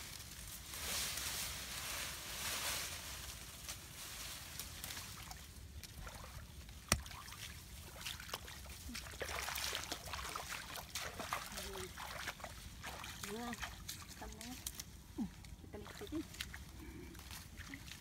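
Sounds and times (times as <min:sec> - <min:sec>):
dry grass rustling: 0:00.0 - 0:17.9.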